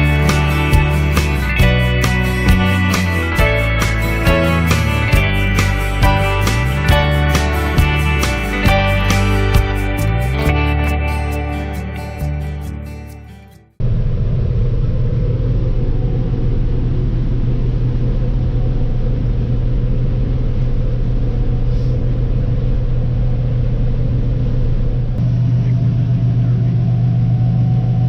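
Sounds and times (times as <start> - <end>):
farm machinery engine droning: 0.0 - 11.3, 13.8 - 28.0.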